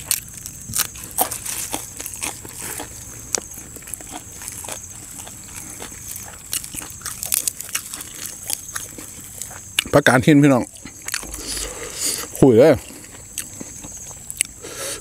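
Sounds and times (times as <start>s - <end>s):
chewing crunchy greens: 0.0s - 15.0s.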